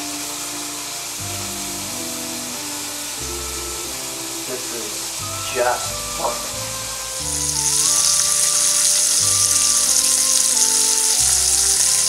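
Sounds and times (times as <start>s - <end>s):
background music of held notes: 0.0s - 12.0s
meat sizzling in oil: 0.0s - 12.0s.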